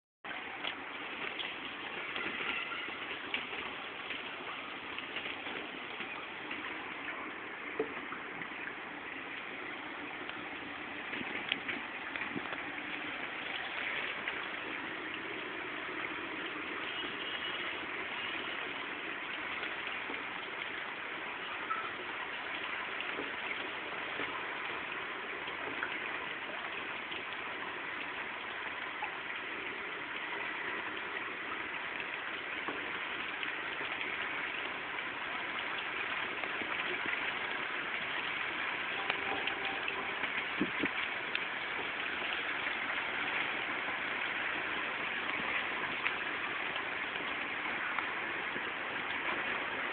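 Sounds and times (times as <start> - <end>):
rain hissing on water: 0.2 - 49.9.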